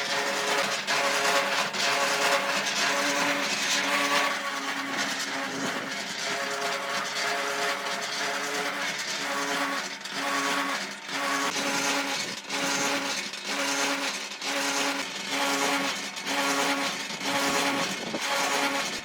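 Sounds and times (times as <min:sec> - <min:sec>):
motor machine whining: 0:00.0 - 0:19.0.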